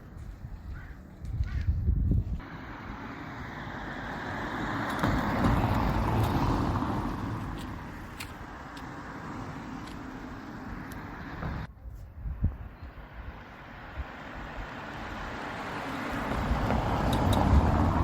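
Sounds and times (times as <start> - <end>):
road and tyre rush: 0.0 - 18.0.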